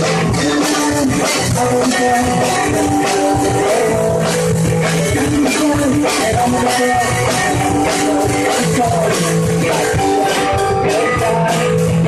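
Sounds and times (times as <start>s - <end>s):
drum kit beat: 0.0s - 12.0s
electric guitar: 0.0s - 12.0s.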